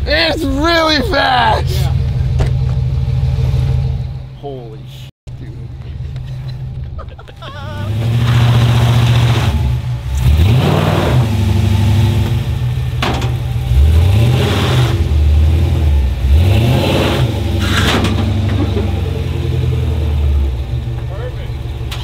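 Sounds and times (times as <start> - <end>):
truck engine revving: 0.0 - 4.4, 5.3 - 22.0.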